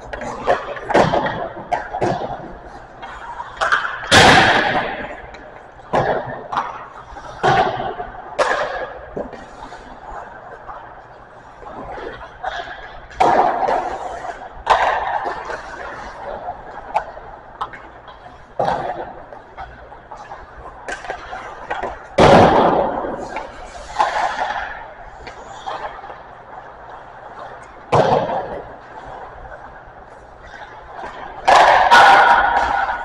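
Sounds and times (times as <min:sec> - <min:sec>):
hockey pucks struck with sticks: 0:00.0 - 0:33.0.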